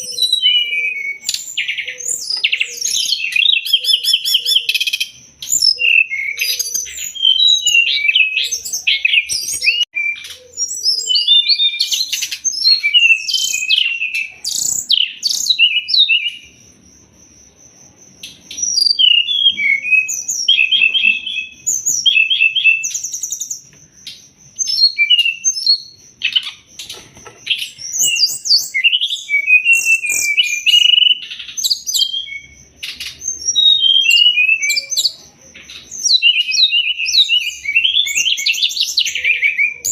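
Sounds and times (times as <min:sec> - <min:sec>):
bird singing chirps and whistles: 0:00.0 - 0:16.7, 0:18.2 - 0:39.9.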